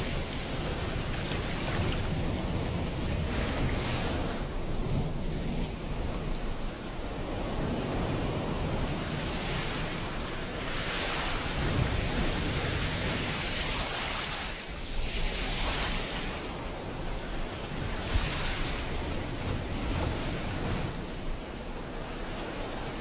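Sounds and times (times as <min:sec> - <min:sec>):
waves breaking on a beach: 0:00.0 - 0:23.0.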